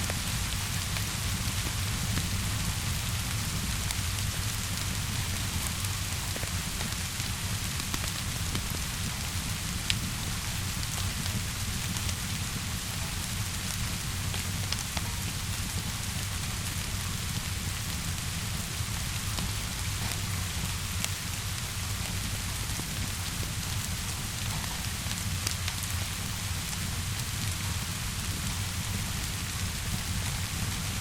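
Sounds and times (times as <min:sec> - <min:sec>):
steady rainfall: 0:00.0 - 0:31.0
wood fire crackling: 0:00.0 - 0:31.0.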